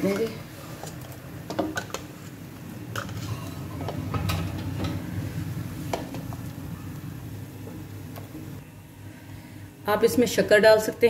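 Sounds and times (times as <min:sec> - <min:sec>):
steady low hum: 0:00.4 - 0:10.5.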